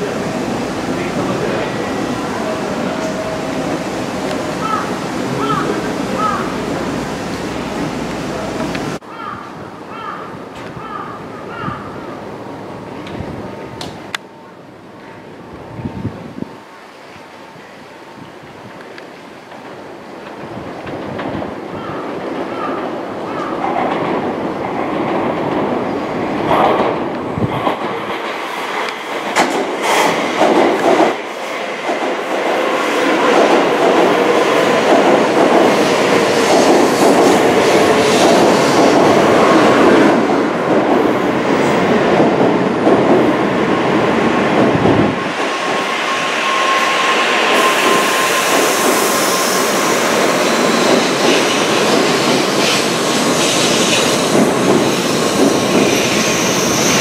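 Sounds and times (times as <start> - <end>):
train rumbling past: 0.0 - 9.6, 10.4 - 57.0.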